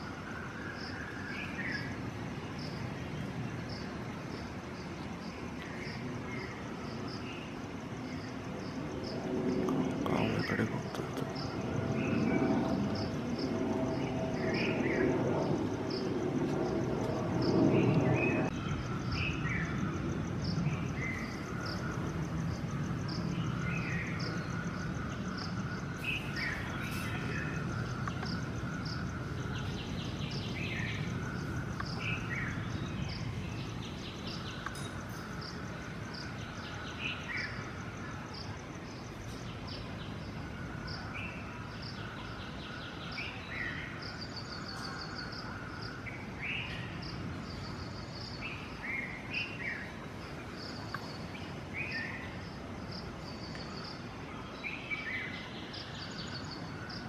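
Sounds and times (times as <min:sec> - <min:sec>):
cricket chirping: 0:00.0 - 0:57.0
small birds chirping: 0:00.0 - 0:57.0.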